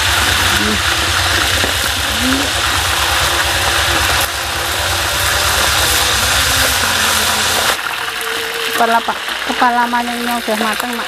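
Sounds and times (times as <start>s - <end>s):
low mechanical rattle: 0.0s - 9.5s
fish sizzling in hot oil: 0.0s - 11.0s.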